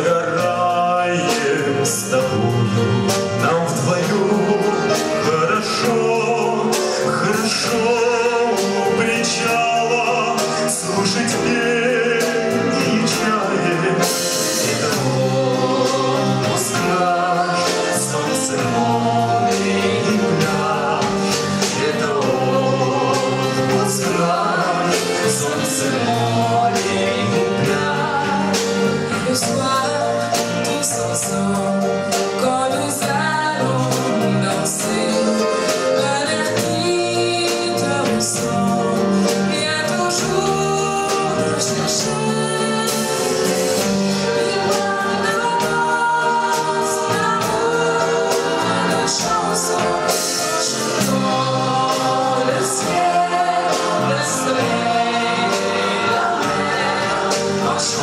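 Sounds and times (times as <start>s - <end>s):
keyboard and guitar band: 0.0s - 58.0s
man and woman singing duet: 0.0s - 58.0s.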